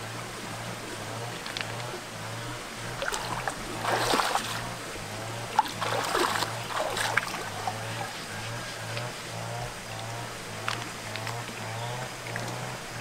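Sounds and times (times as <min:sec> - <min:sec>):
low steady hum: 0:00.0 - 0:13.0
stream water splashing: 0:00.0 - 0:13.0.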